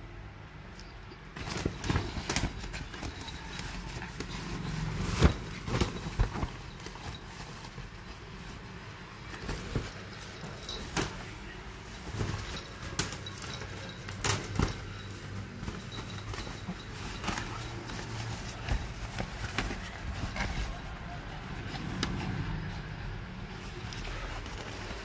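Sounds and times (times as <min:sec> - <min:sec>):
paws clicking on tile floor: 0:00.8 - 0:25.0.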